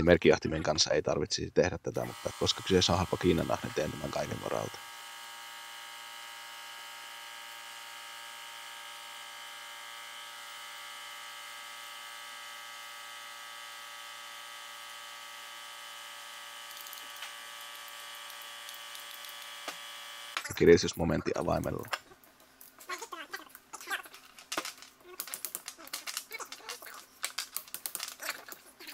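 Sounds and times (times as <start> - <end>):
steady electrical hum: 0.0 - 28.9.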